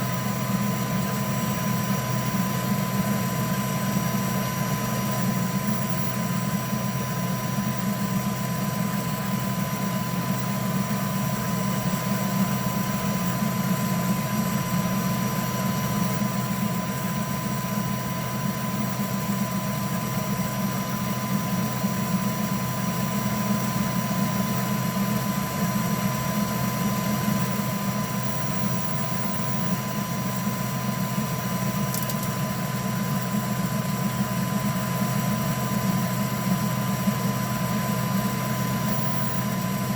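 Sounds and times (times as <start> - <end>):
three d printer humming and whining: 0.0 - 39.9.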